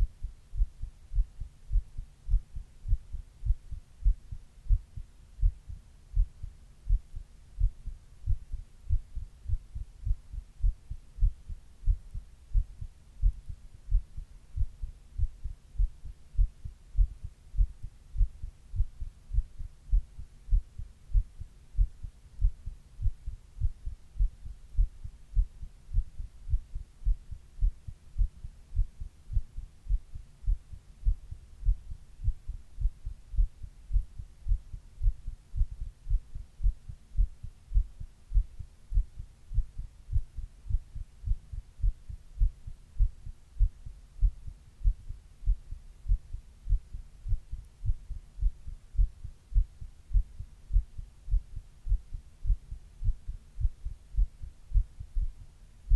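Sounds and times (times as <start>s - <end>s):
heartbeat through chest: 0.0s - 55.9s.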